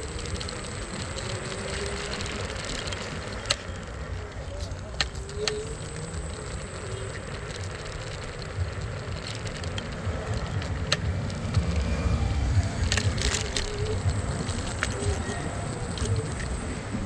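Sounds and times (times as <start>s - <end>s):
sharp clicks: 0.0s - 17.0s
street traffic: 0.0s - 17.0s
wind rumbling on microphone: 0.0s - 17.0s.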